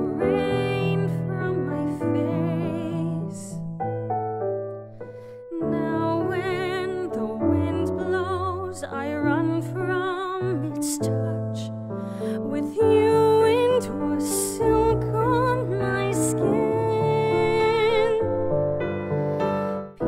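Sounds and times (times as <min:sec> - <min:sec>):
woman singing a ballad: 0:00.0 - 0:03.7, 0:05.5 - 0:18.4
piano accompaniment: 0:00.0 - 0:20.0.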